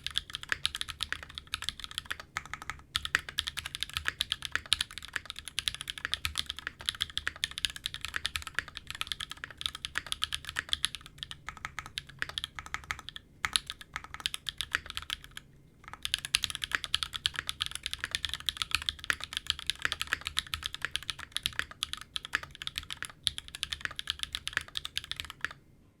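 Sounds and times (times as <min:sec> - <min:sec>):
fast typing on mechanical keyboard: 0:00.0 - 0:25.6.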